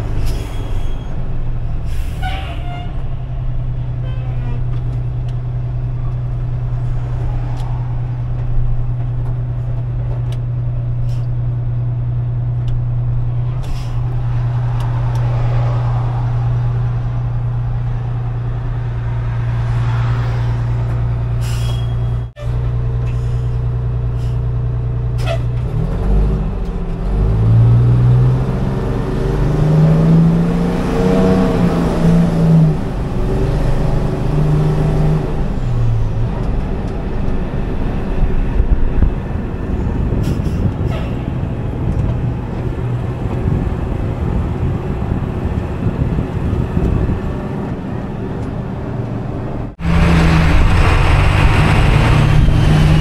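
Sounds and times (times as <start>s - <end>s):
road noise: 0.0s - 53.0s
truck diesel engine accelerating: 0.0s - 53.0s.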